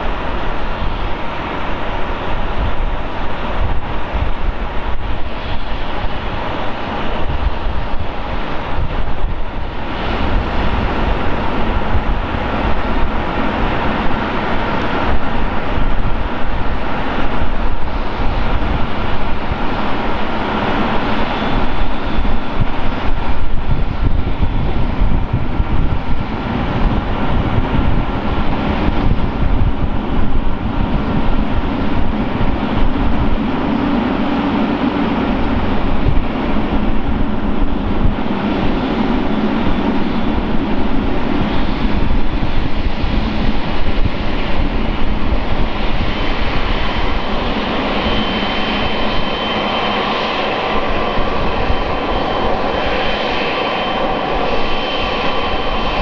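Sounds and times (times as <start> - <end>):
high jet engine whine: 0.0 - 56.0
jet engines rumbling: 0.0 - 56.0.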